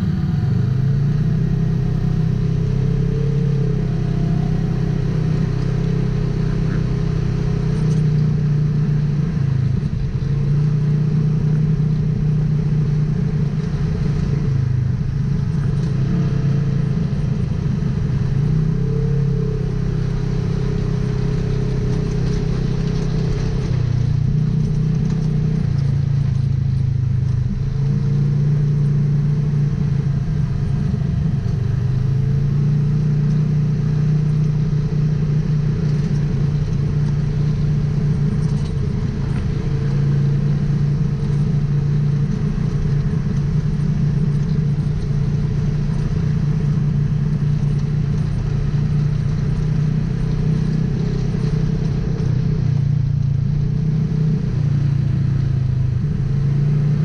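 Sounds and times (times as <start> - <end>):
engine running while driving: 0.0 - 57.0.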